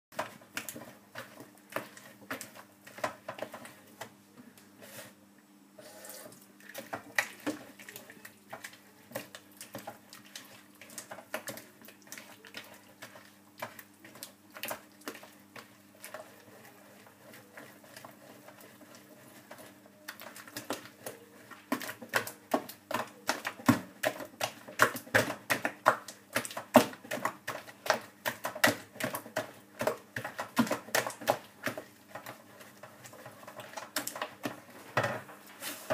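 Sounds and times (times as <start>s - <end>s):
wet dough slapping and clicking: 0.1s - 4.1s, 6.6s - 34.6s.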